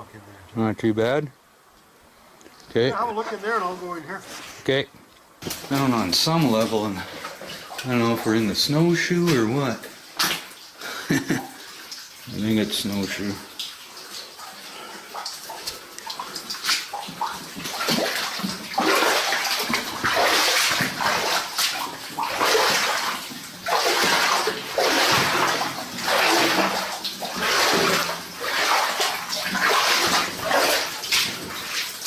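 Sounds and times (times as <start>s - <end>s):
rubber boots wading through water: 5.4s - 32.0s.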